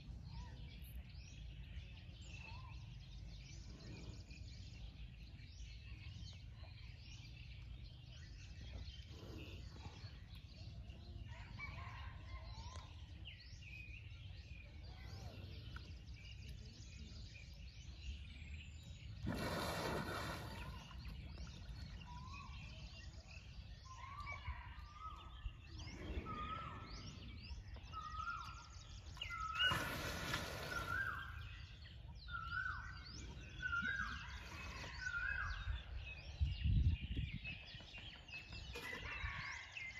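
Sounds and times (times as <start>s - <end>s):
birds chirping and calling: 0.2s - 39.9s.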